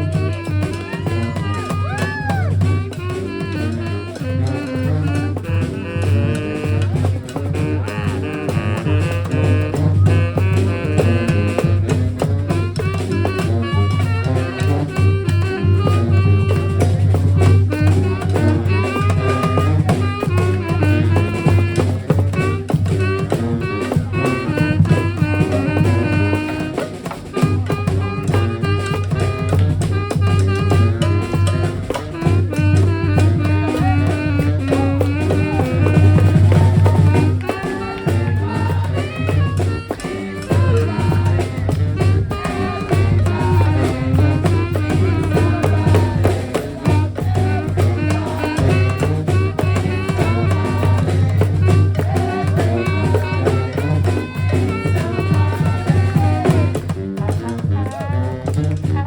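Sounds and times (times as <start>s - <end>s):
brass horns playing: 0.0s - 59.0s
drums beating: 0.0s - 59.0s.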